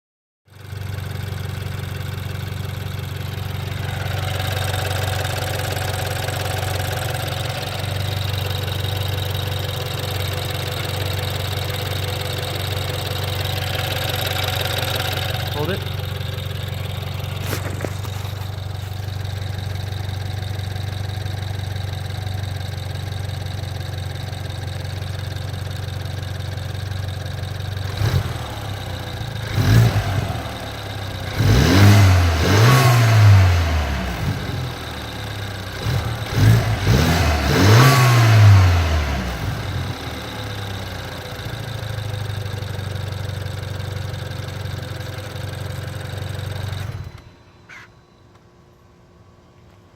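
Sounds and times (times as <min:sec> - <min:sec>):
car engine idling and revving: 0:00.5 - 0:47.9
engine clicking: 0:00.6 - 0:48.4.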